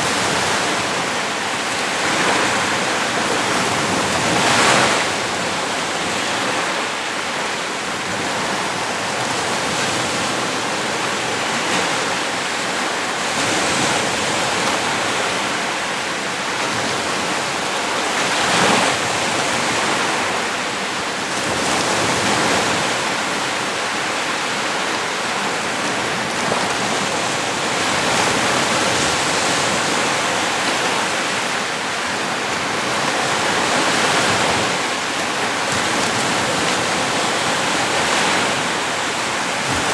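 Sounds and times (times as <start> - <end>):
small waves washing onto beach: 0.0 - 39.9.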